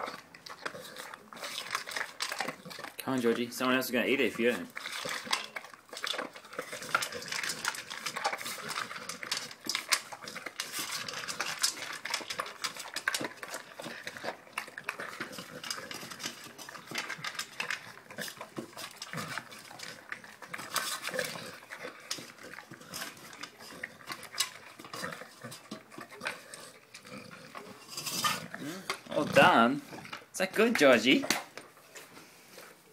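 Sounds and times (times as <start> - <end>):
food bowl clattering: 0.0 - 31.8
dog chewing food: 0.0 - 32.9.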